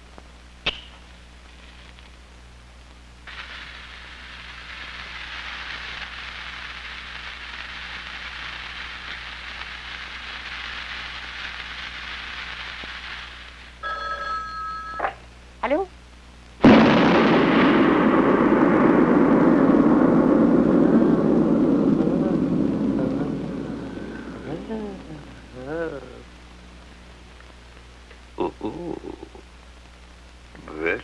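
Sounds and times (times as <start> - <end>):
steady hiss: 0.0 - 13.9, 15.2 - 31.0
low steady hum: 0.0 - 31.0.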